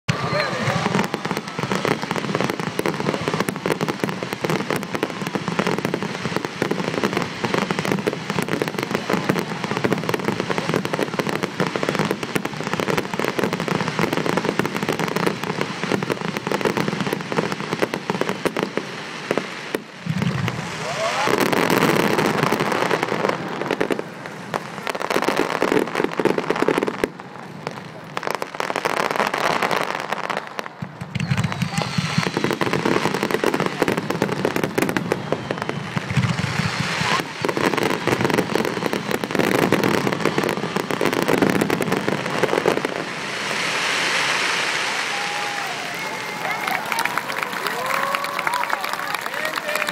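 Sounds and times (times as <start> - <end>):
fireworks crackling and popping: 0.1 - 49.9.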